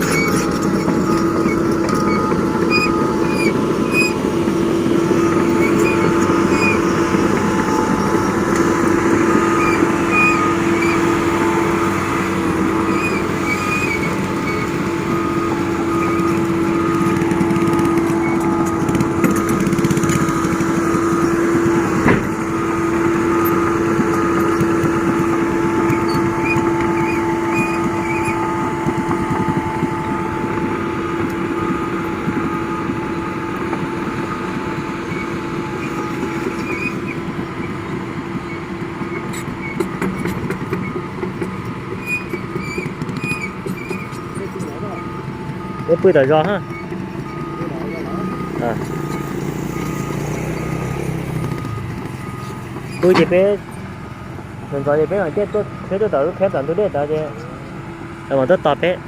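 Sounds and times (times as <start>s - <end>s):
excavator diesel engine humming: 0.0s - 59.0s.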